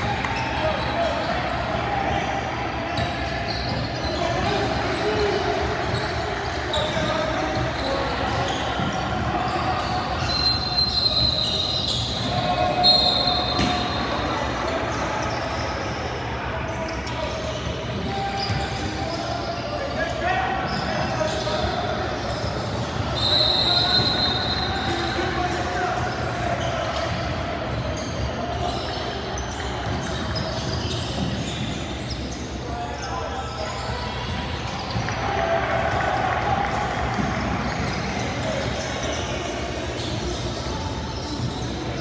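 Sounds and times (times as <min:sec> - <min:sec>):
crowd and player voices: 0:00.0 - 0:42.0
gym hall din: 0:00.0 - 0:42.0
shoe squeaks: 0:02.9 - 0:35.4, 0:37.2 - 0:42.0.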